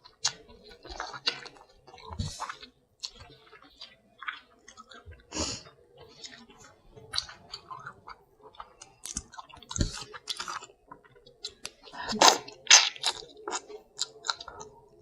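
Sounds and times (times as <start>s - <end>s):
wet chewing and crunching: 0.0s - 15.0s.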